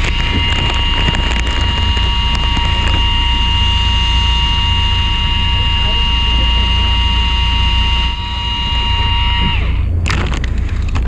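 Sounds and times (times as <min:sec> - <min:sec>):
boat engine rumble: 0:00.0 - 0:11.0
steady high whine: 0:00.0 - 0:11.0.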